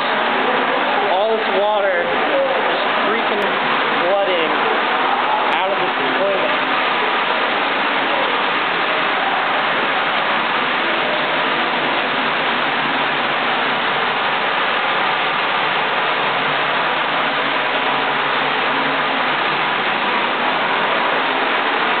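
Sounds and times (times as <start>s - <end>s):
water rushing from burst pipe: 0.0s - 22.0s.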